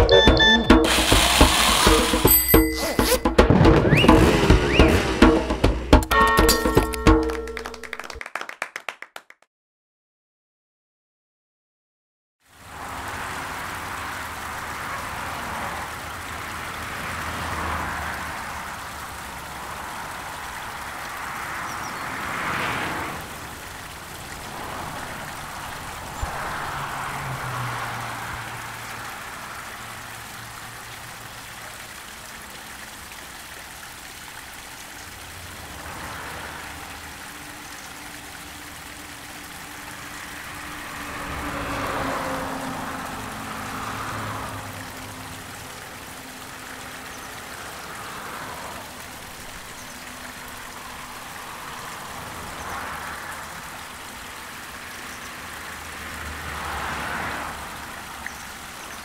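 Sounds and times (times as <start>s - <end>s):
stream of liquid splashing: 0.0s - 8.2s, 12.4s - 59.0s.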